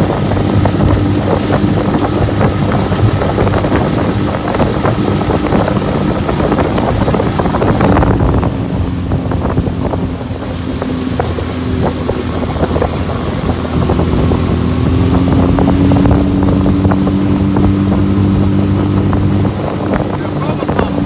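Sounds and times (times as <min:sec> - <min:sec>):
hull slapping water: 0:00.0 - 0:21.0
outboard motor running: 0:00.0 - 0:21.0
wind on microphone: 0:00.0 - 0:21.0.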